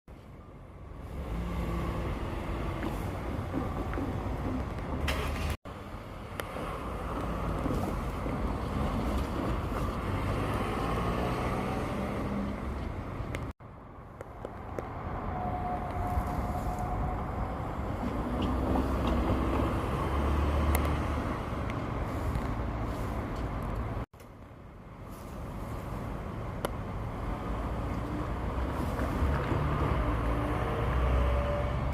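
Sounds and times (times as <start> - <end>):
road traffic engine rumble: 0.1 - 31.9.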